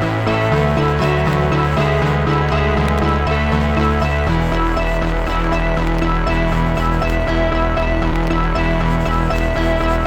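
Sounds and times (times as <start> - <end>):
music with pulsing beat: 0.0 - 10.0.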